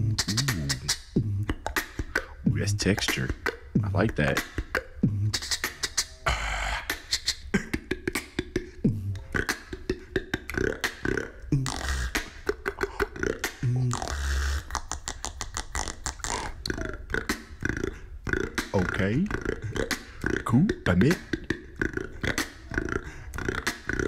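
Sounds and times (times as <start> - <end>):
beatboxing: 0.0 - 24.0.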